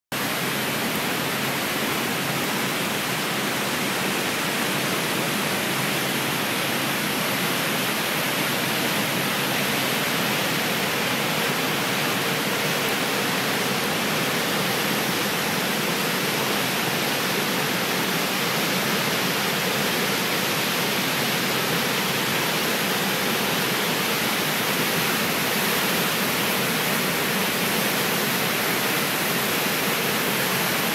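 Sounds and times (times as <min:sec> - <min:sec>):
whitewater stream rushing: 0:00.2 - 0:30.9.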